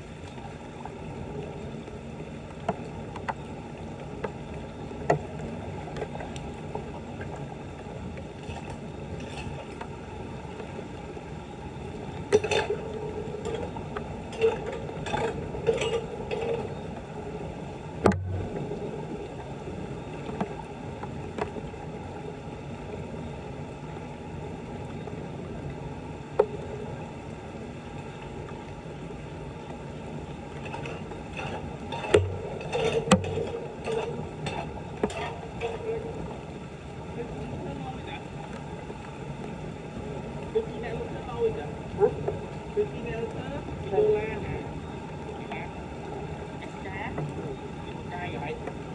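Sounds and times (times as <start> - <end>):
floodwater running: 0.0 - 48.9.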